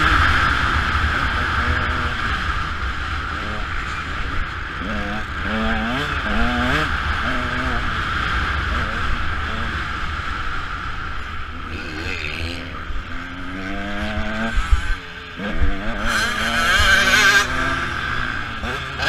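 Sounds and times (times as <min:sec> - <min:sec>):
wind noise: 0:00.0 - 0:18.7
dirt bike engine revving: 0:00.0 - 0:19.0.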